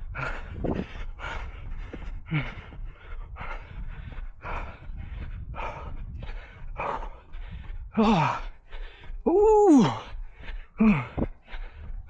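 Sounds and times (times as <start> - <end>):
person panting heavily: 0.0 - 12.0.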